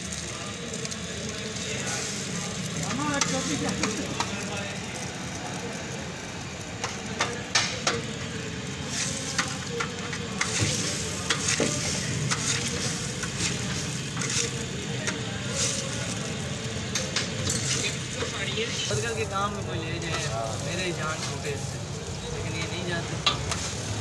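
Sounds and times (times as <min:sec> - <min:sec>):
egg sizzling on a griddle: 0:00.0 - 0:24.0.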